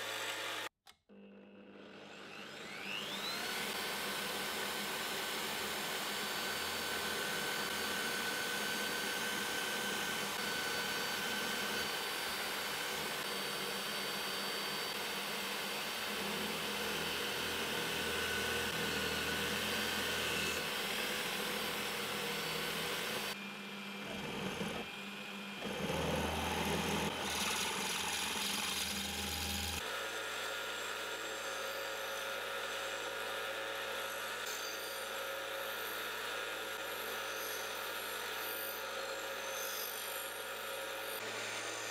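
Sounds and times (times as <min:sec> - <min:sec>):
power tool grinding metal: 0:02.0 - 0:41.9.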